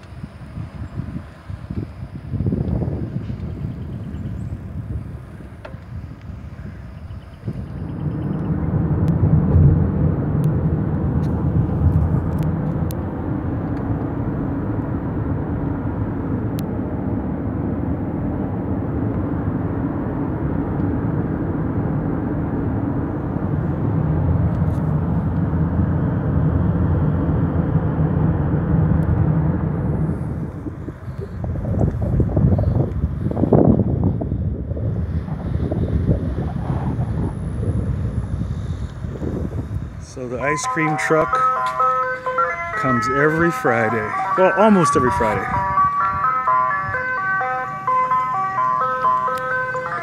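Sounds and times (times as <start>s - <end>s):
car cabin road noise: 0.0s - 50.0s.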